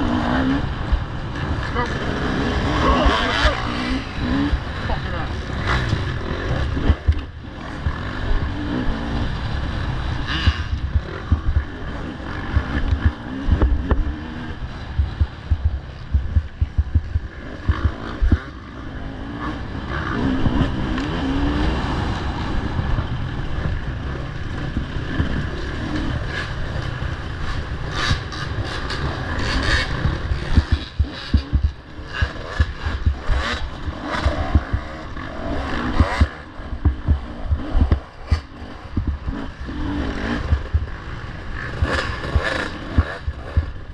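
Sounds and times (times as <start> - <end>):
motorcycles revving: 0.0 - 43.9.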